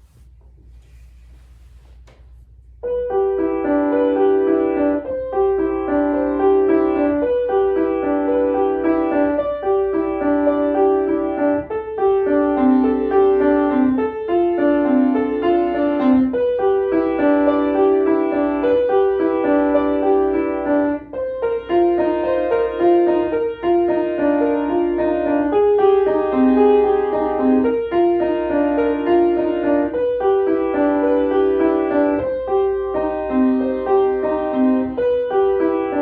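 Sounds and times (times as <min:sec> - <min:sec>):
solo piano piece: 0:02.3 - 0:36.0.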